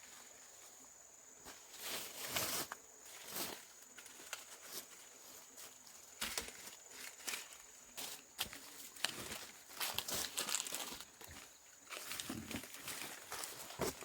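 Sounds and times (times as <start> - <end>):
rustling: 1.4 - 14.0.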